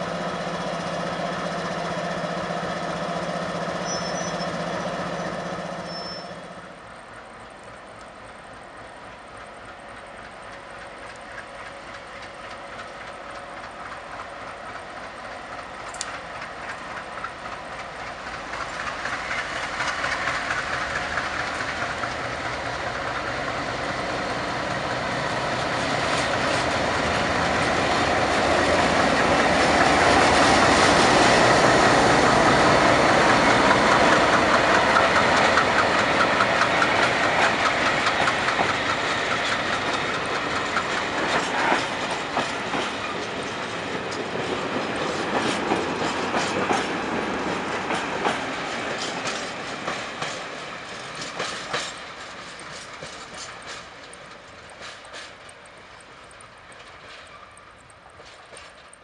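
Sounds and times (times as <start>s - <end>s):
diesel locomotive engine: 0.0s - 59.0s
train wheels clacking over rail joints: 9.2s - 59.0s.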